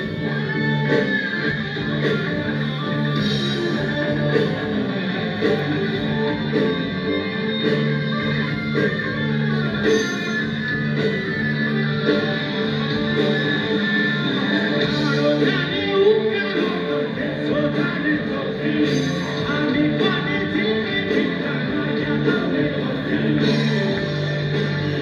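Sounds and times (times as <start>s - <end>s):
guitar music: 0.0s - 25.0s.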